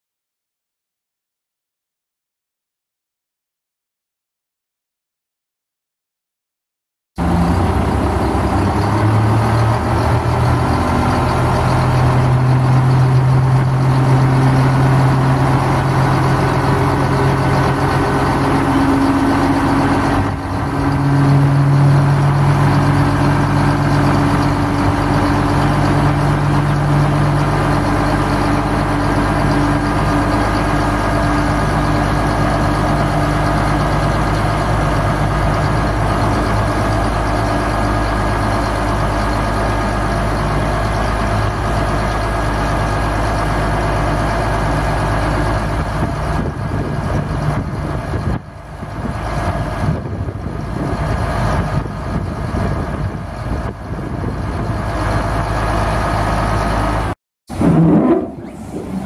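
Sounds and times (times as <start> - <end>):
diesel truck engine running: 7.2 - 59.0.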